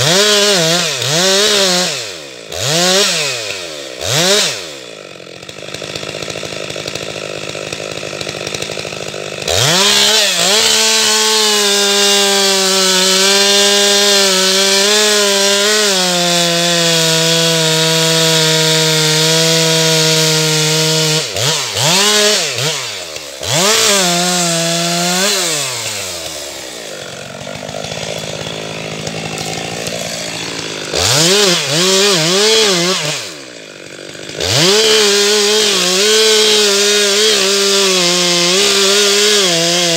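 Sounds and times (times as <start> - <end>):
chainsaw revving and cutting: 0.0 - 39.9.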